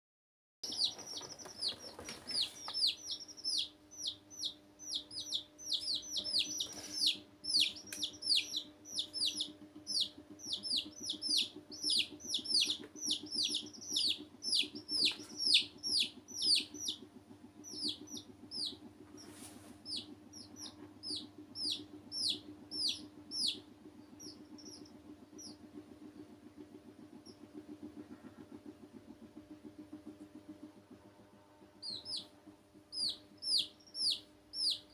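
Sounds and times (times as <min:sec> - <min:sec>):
chicks peeping: 0:00.6 - 0:34.9.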